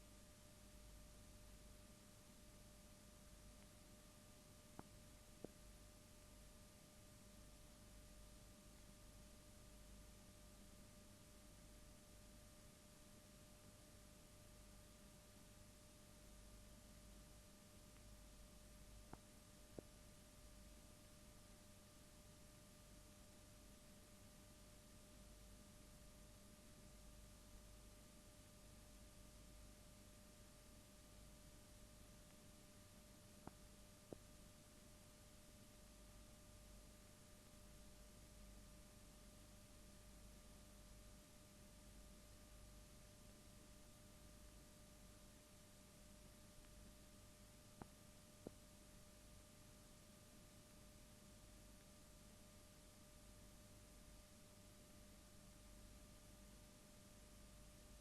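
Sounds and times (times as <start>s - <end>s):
faint steady hiss: 0.0s - 58.0s
thin constant hum: 0.0s - 58.0s.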